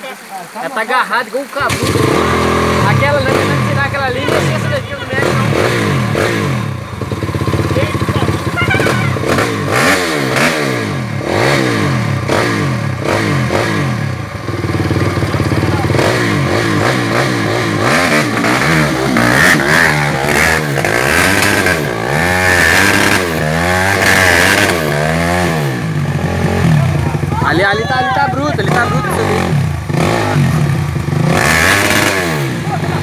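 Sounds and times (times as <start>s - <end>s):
dirt bike engine revving: 1.6s - 33.0s.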